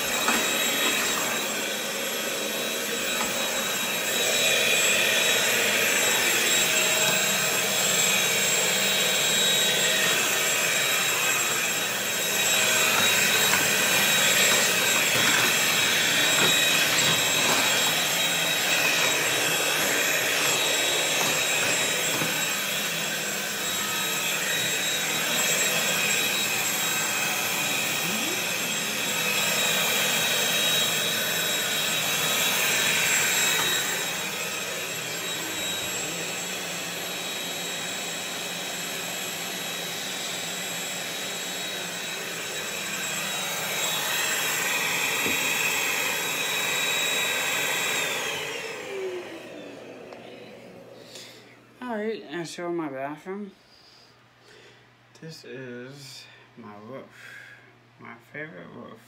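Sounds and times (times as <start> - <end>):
vacuum cleaner motor whine: 0.0 - 53.1.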